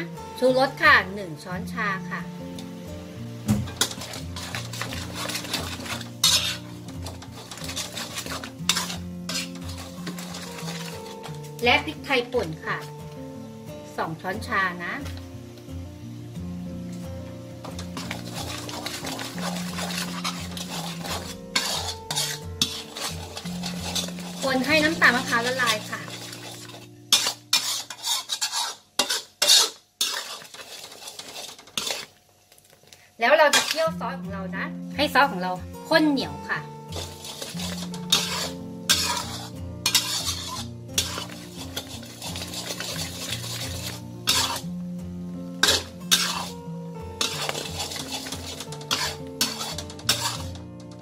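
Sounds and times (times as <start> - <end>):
metal spatula scraping a wok: 2.6 - 13.6, 16.9 - 32.4, 33.3 - 34.0, 35.8 - 51.0.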